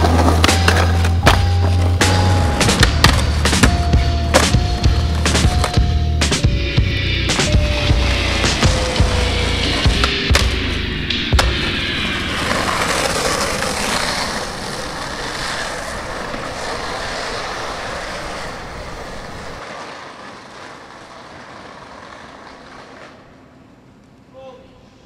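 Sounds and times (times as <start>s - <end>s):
skateboard clack: 0.0s - 6.6s, 7.3s - 23.5s
skateboard wheels rolling on asphalt: 0.0s - 24.2s.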